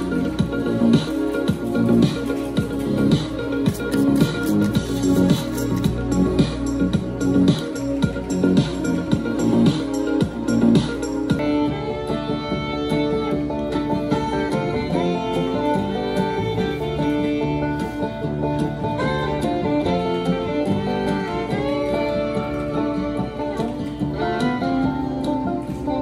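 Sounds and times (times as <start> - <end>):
bluegrass tune with guitar banjo fiddle: 0.0 - 26.0.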